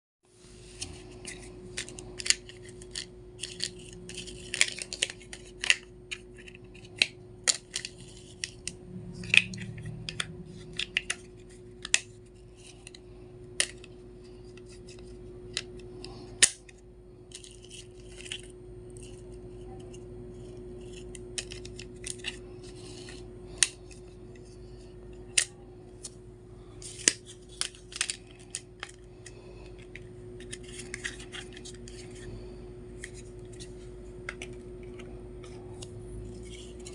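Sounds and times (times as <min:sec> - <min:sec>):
faint steady hum: 0:00.3 - 0:36.9.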